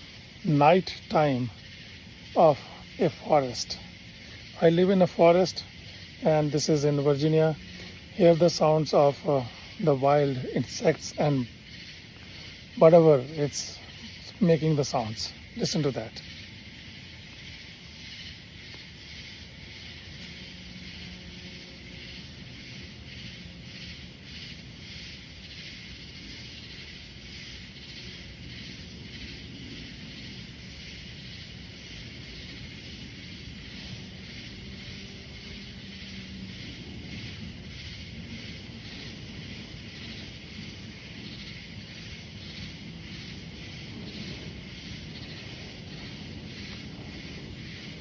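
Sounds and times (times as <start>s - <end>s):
night insects buzzing: 0.0s - 48.0s.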